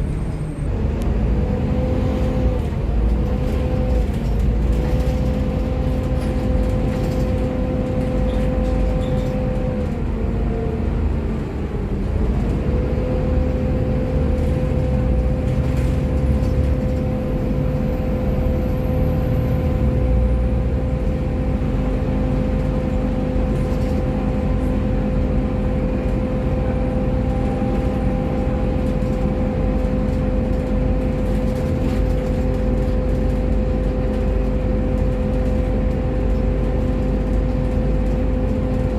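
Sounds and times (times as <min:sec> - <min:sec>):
bus drivetrain rumble and whine: 0:00.0 - 0:38.9.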